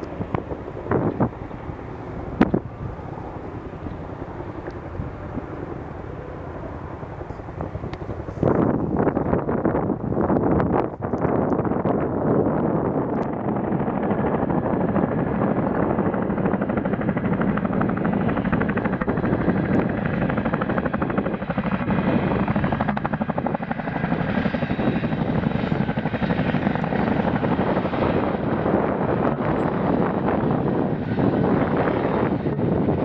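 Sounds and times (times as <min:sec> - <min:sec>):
helicopter rotors chopping: 0:00.0 - 0:33.0.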